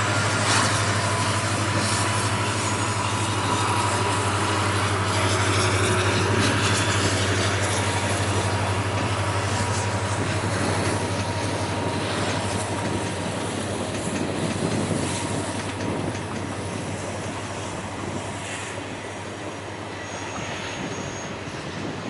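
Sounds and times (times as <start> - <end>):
high wheel squeal: 0.0 - 15.4, 18.4 - 22.0
diesel locomotive hum: 0.0 - 22.0
wheel and rail noise: 0.0 - 22.0.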